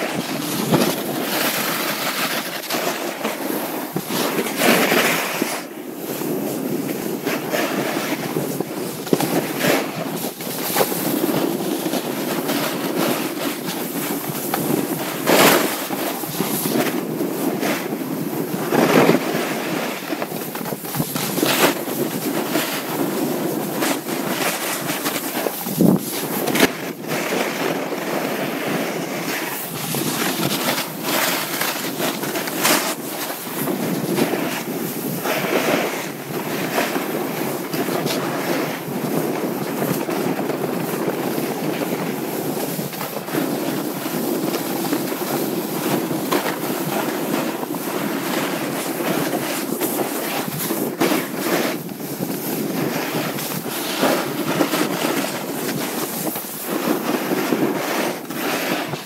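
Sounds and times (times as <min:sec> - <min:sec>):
skis sliding on snow: 0:00.0 - 0:59.0
wind on microphone: 0:00.0 - 0:59.0.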